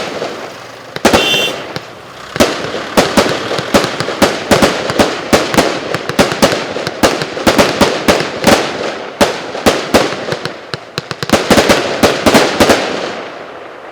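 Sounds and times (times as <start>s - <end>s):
fireworks bangs: 0.0s - 13.9s
fireworks crackle: 0.0s - 13.9s.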